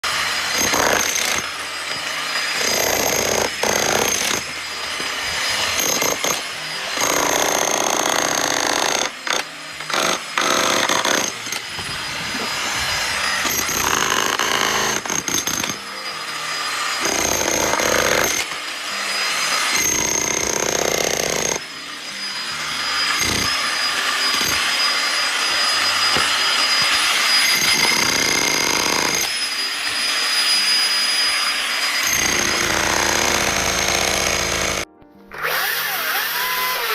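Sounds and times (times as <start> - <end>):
power tools cutting wood: 0.0 - 36.9.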